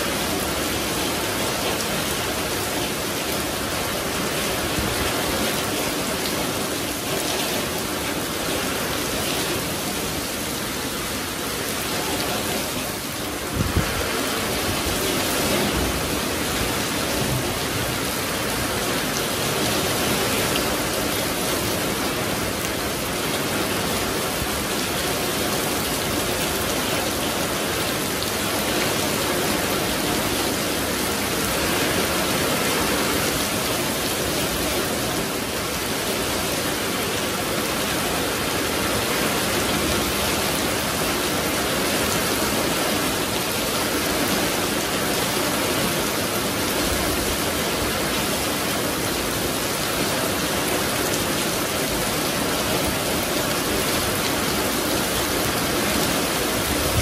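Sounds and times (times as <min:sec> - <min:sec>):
heavy rain on concrete: 0:00.0 - 0:57.0.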